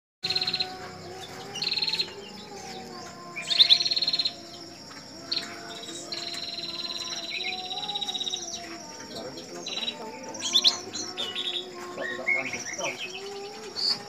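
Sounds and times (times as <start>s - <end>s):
songbird trilling: 0.2s - 14.0s.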